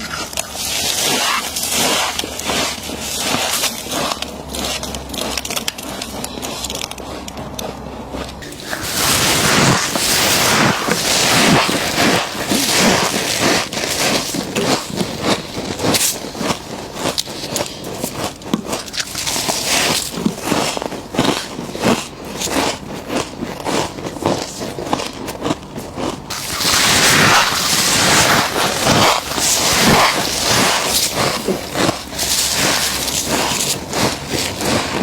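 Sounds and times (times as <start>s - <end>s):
frost crunching when chewed: 0.0s - 35.0s.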